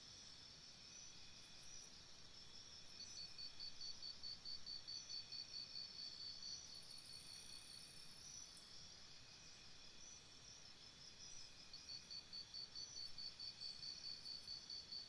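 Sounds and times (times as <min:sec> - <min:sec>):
steady high insect trills: 0:00.1 - 0:15.0.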